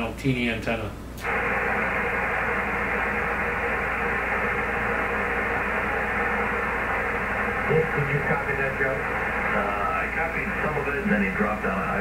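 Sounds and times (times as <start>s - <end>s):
radio static hiss: 1.2s - 12.0s.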